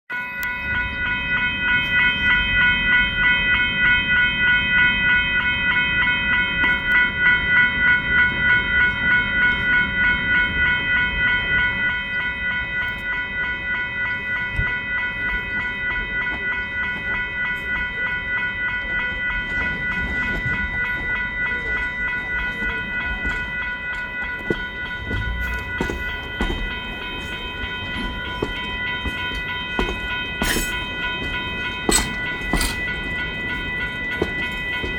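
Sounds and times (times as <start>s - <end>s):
low rumble of moving train: 0.1s - 34.9s
steam locomotive bell ringing: 0.1s - 34.9s
train knocks and clanks: 0.4s - 34.9s.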